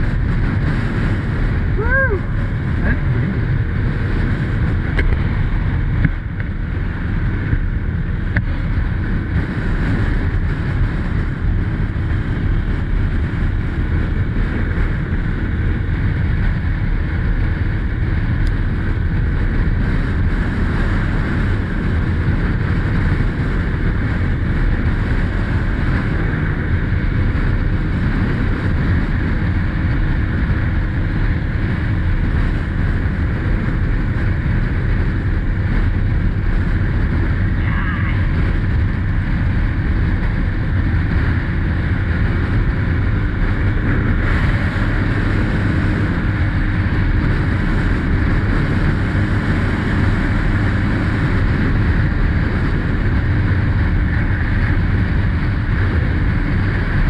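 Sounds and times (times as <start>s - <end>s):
dirt bike engine running: 0.0s - 57.0s
wind buffeting microphone: 0.0s - 57.0s.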